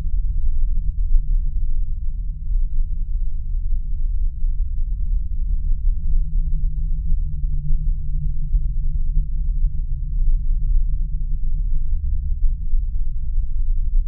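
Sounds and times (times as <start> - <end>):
deep droning rumble: 0.0 - 14.0.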